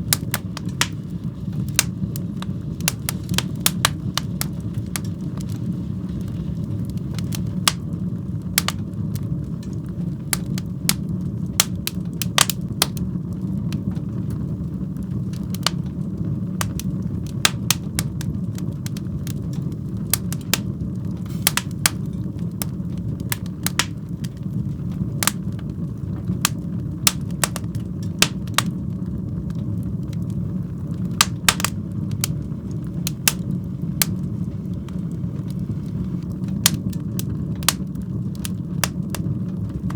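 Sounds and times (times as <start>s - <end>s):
fire crackling and popping: 0.0s - 39.9s
fire rumbling in a fireplace: 0.0s - 39.9s.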